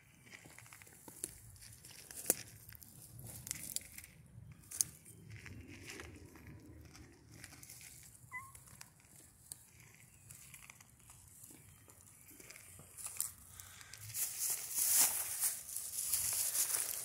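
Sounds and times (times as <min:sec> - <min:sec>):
footsteps through dry leaves: 0:00.2 - 0:17.0.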